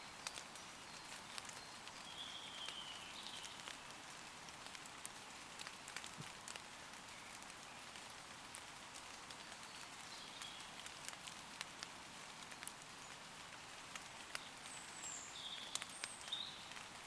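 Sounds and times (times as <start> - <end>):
gentle rain on leaves: 0.0 - 17.0
raindrops ticking: 0.0 - 17.0.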